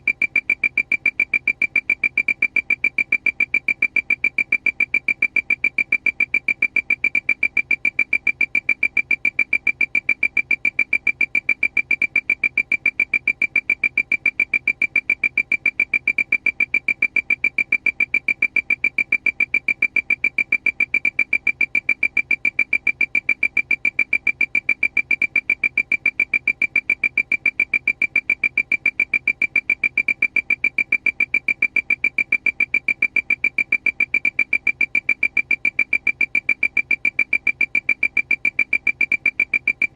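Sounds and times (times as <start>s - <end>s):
rapid high electronic beeps: 0.0s - 39.9s.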